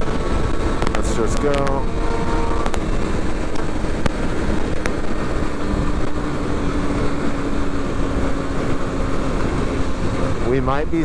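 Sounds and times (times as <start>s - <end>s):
motorcycle engine droning: 0.0s - 11.0s
wind rushing over microphone: 0.0s - 11.0s.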